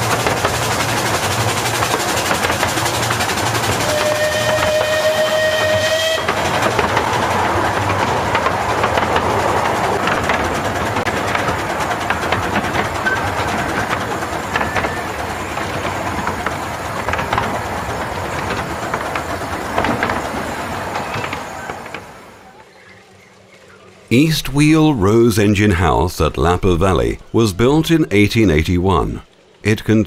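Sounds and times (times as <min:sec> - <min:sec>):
train wheels rumbling: 0:00.0 - 0:30.0
wheels clacking over rail joints: 0:00.0 - 0:30.0.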